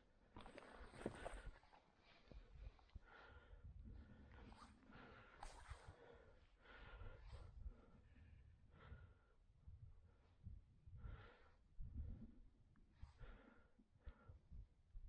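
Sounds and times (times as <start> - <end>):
faint breathing: 0.4 - 14.7.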